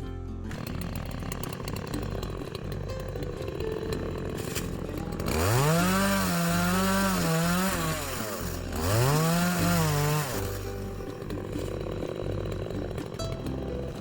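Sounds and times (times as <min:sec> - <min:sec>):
chainsaw engine revving: 0:00.5 - 0:14.0.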